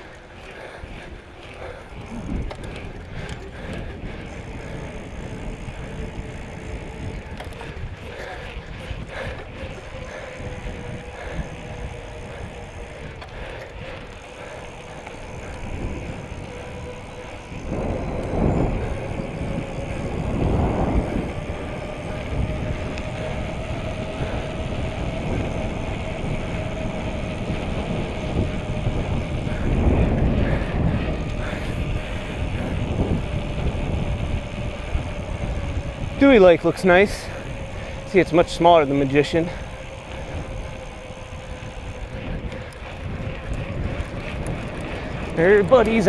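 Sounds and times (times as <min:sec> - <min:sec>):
bicycle tyre and road noise: 0:00.0 - 0:46.0
wind rumbling on microphone: 0:00.0 - 0:46.0.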